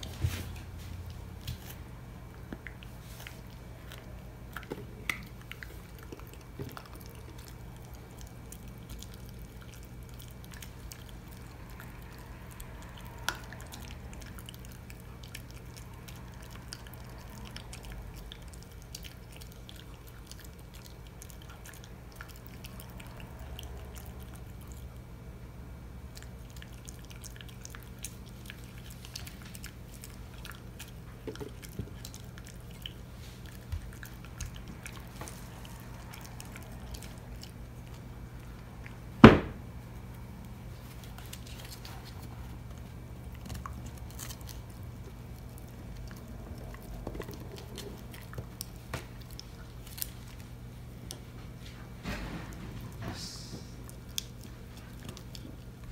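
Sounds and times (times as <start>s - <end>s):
dog licking and gnawing: 0.0s - 25.1s, 25.9s - 53.1s, 53.8s - 55.9s.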